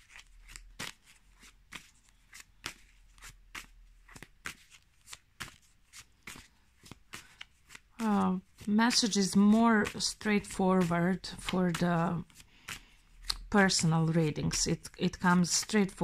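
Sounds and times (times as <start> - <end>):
cards being shuffled: 0.0 - 16.0.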